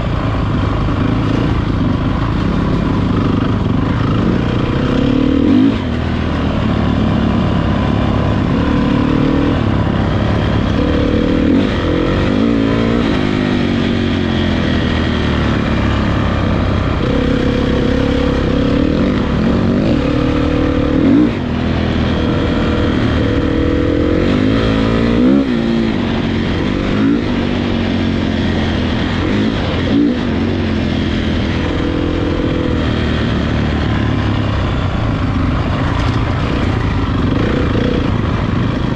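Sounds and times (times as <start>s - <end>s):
motocross motorcycles revving: 0.0s - 38.9s.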